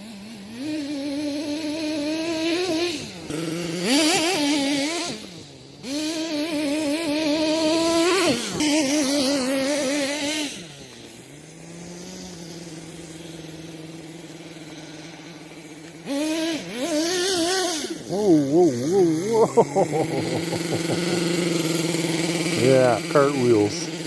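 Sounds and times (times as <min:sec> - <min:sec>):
small model engine revving: 0:00.0 - 0:24.0.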